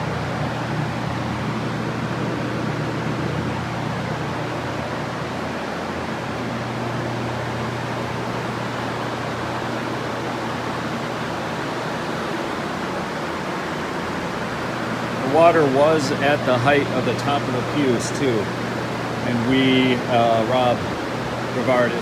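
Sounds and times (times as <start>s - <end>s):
dehumidifier low hum: 0.0s - 22.0s
drying fans rushing air: 0.0s - 22.0s.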